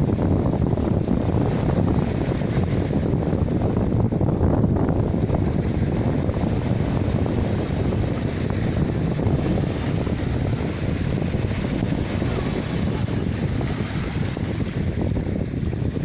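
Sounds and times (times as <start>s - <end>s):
sea waves washing ashore: 0.0s - 16.0s
wind buffeting microphone: 0.0s - 16.0s.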